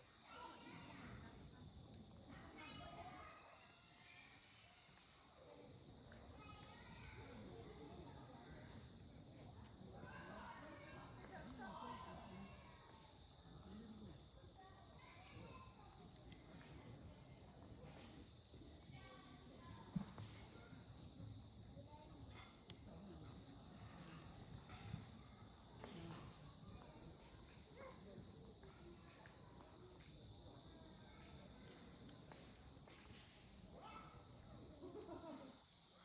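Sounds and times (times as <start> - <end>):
distant children's voices: 0.0 - 36.0
insects chirping: 2.9 - 36.0.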